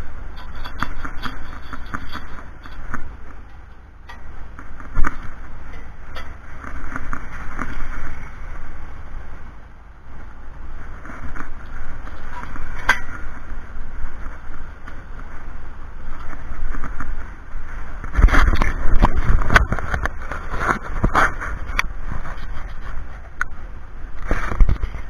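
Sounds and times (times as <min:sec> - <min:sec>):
steady rumbling noise: 0:00.0 - 0:25.0.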